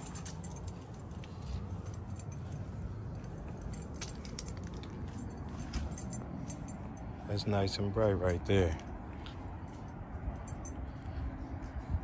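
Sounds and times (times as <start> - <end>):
light clicks and jingling: 0.0 - 12.0
steady low rumble: 0.0 - 12.0.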